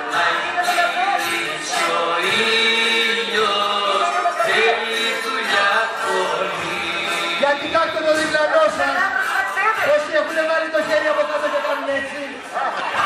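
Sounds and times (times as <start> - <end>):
several voices singing: 0.0 - 13.0.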